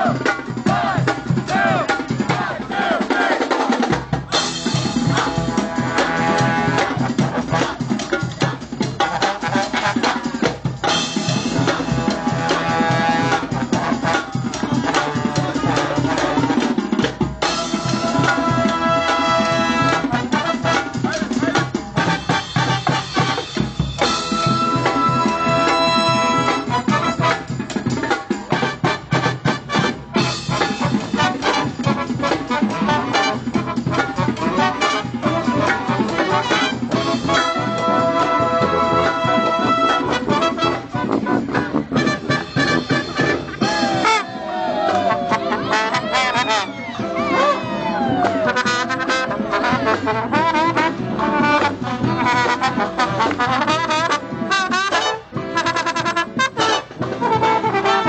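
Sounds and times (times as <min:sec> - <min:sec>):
brass band playing upbeat tune: 0:00.0 - 0:58.0
drum kit: 0:00.0 - 0:58.0.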